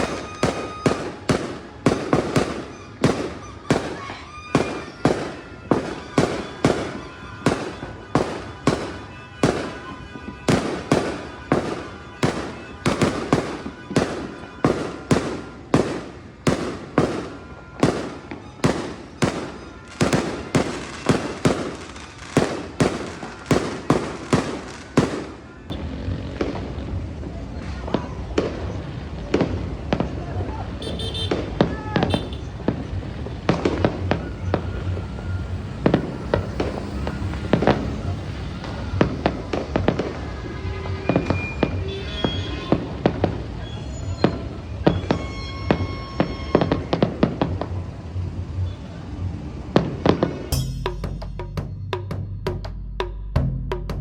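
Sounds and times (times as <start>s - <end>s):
fireworks bangs: 0.0s - 52.2s.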